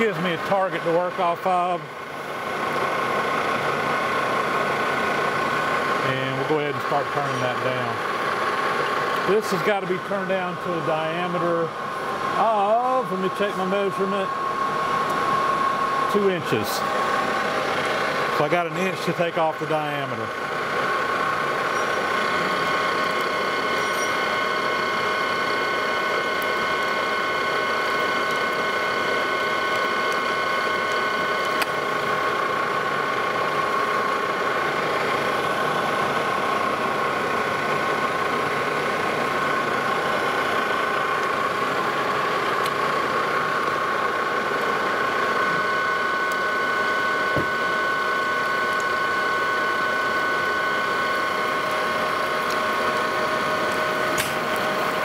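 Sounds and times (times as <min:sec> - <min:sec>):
lathe whine: 0:00.0 - 0:55.0
metal lathe cutting: 0:00.0 - 0:55.0.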